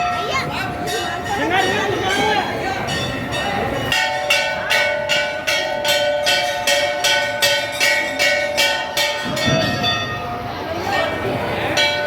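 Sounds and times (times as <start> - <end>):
metal bell rung rapidly: 0.0 - 12.0.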